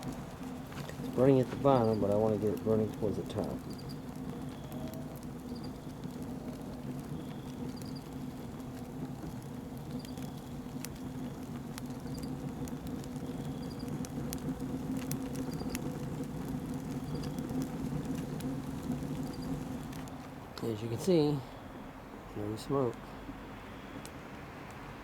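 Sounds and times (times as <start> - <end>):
steady low hum: 0.0 - 24.1
cardboard crackling in fire: 0.0 - 25.0.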